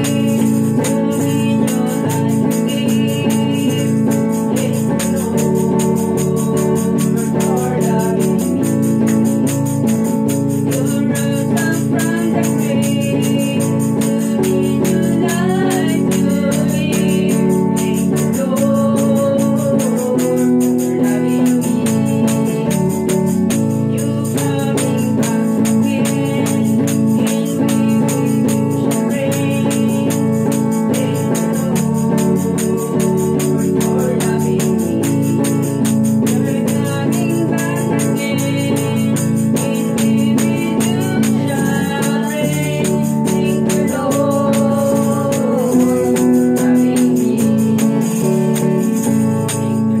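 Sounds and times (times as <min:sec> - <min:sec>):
electric guitar: 0:00.0 - 0:50.0
steady percussion: 0:00.0 - 0:50.0
woman singing: 0:00.0 - 0:50.0.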